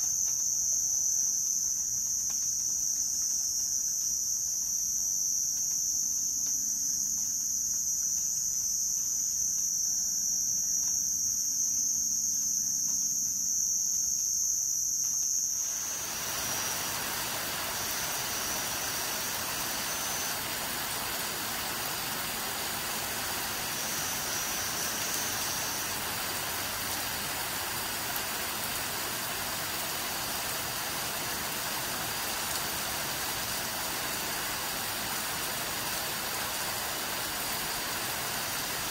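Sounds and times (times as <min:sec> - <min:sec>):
rain hissing: 0:00.0 - 0:09.6, 0:15.0 - 0:38.9
night insects trilling: 0:00.0 - 0:38.9.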